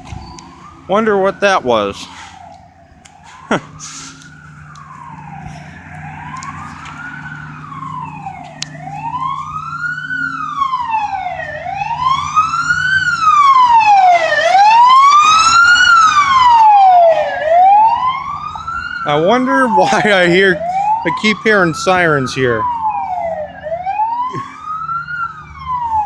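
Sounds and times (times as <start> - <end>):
emergency vehicle siren wailing: 0.0 - 26.0.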